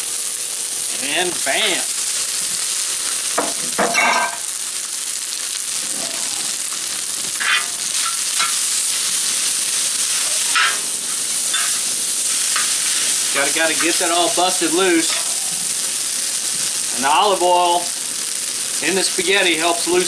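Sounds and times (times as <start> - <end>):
spaghetti sizzling in oil: 0.0 - 20.0.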